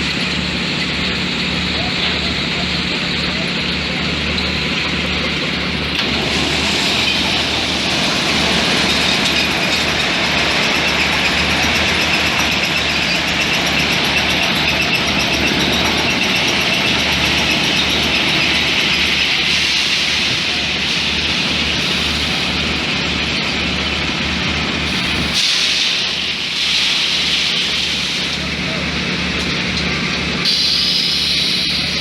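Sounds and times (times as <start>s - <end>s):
loud mechanical wash: 0.0s - 32.0s.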